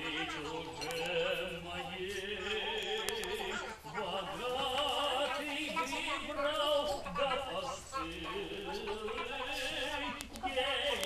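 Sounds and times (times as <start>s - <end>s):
man singing operatically: 0.0s - 11.0s.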